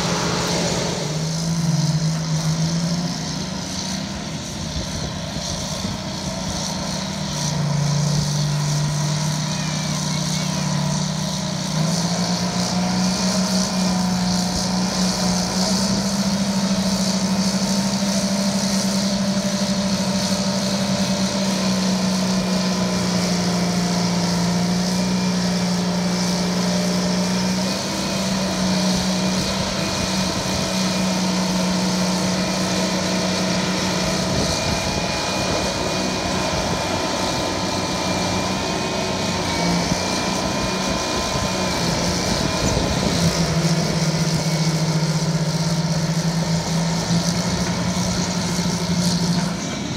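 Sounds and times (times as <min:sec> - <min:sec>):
dozer diesel engines droning: 0:00.0 - 0:49.9.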